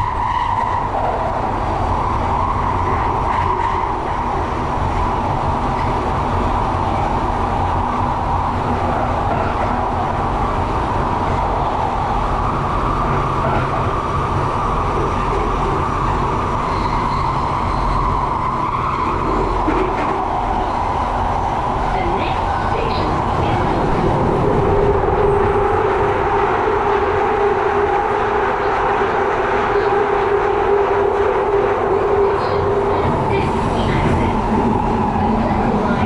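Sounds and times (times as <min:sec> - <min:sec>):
train wheels roaring on rail: 0:00.0 - 0:36.0.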